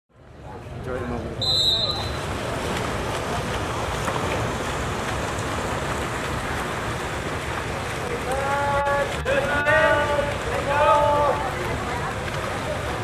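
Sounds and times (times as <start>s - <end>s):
water splashing and churning: 0.7s - 13.0s.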